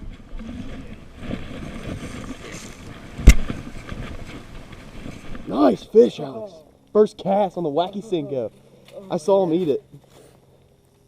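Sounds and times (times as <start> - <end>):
low rumbling outdoor noise: 0.0 - 11.0.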